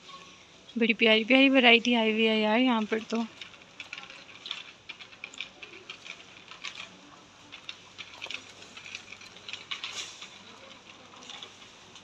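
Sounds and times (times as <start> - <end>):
shop background noise: 0.0 - 12.0.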